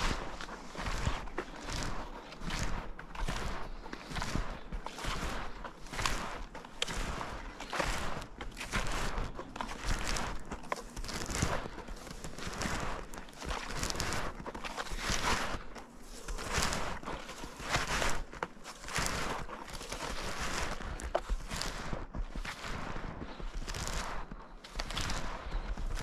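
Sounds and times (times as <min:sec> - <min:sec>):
snowshoes crunching snow: 0:00.0 - 0:26.0.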